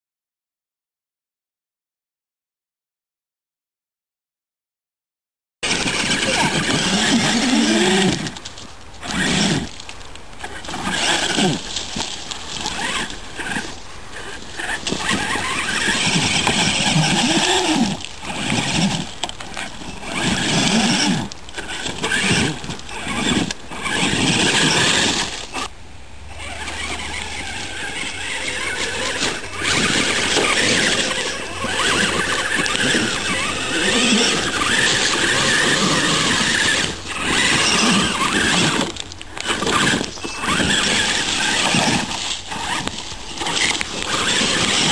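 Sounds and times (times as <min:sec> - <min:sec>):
toy truck electric motors whining: 0:05.6 - 0:25.7, 0:26.3 - 0:44.9.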